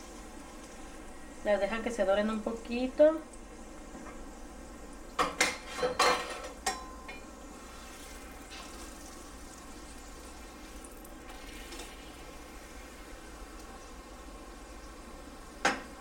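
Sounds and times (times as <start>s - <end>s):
tortilla sizzling in oil: 0.0s - 1.5s, 3.2s - 16.0s.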